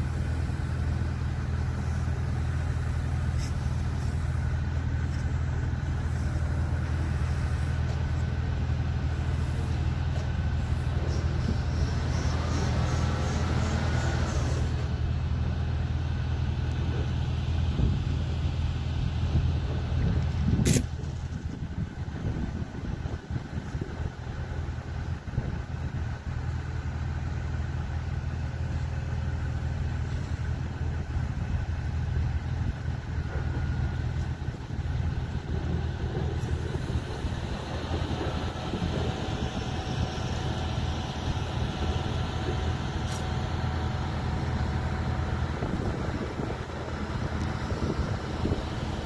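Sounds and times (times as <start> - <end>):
diesel engines droning: 0.0 - 49.0.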